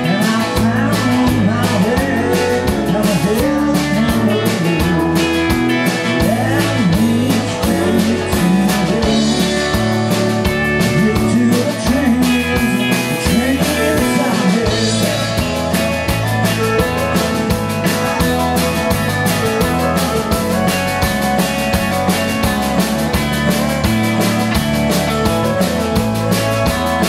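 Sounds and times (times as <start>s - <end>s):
acoustic guitar: 0.0s - 27.0s
drum kit beat: 0.0s - 27.0s
electric guitars: 0.0s - 27.0s.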